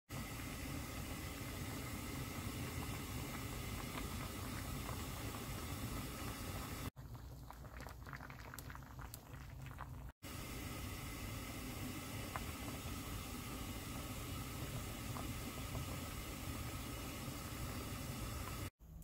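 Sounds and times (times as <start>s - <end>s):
stew bubbling at a boil: 0.1s - 18.8s.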